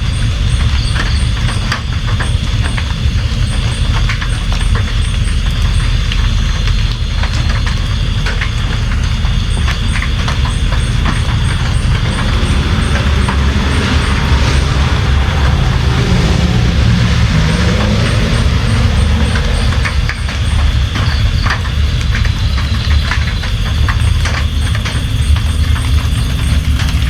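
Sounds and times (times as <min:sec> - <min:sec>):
deep rumble: 0:00.0 - 0:27.0
heavy rain: 0:00.0 - 0:27.0.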